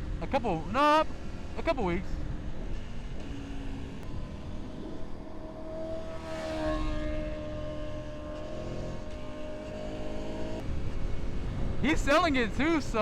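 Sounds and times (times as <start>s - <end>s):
low wind rumble: 0.0s - 13.0s
motorcycle engine running: 0.0s - 13.0s.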